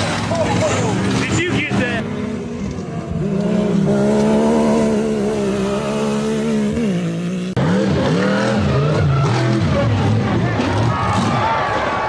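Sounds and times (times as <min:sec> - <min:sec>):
engine revving up and down: 0:00.0 - 0:12.0
engine running at high revs: 0:00.0 - 0:12.0.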